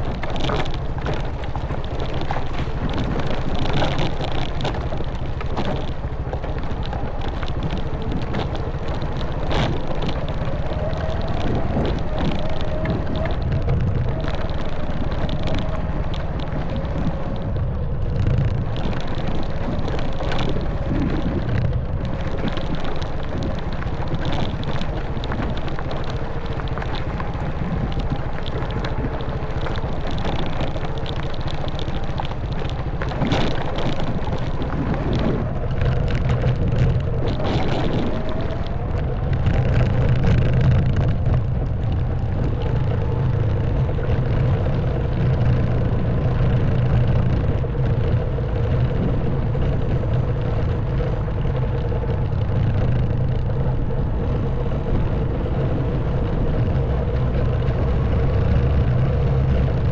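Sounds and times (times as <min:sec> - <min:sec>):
bike knocking on rough track: 0:00.0 - 0:54.0
wind on microphone: 0:00.0 - 0:59.9.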